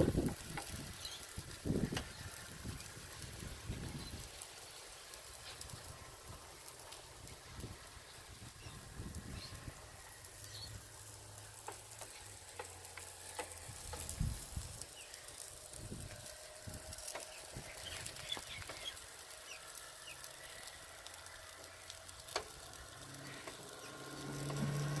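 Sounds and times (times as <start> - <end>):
charcoal crackles and pops: 0.0 - 25.0
food sizzling in a frypan: 0.0 - 25.0.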